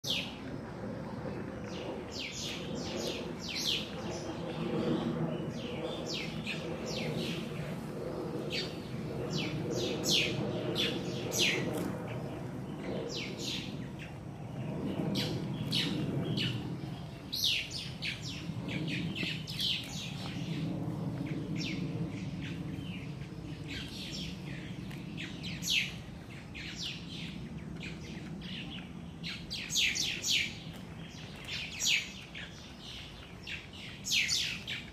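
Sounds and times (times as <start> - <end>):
small birds chirping: 1.7 - 34.9.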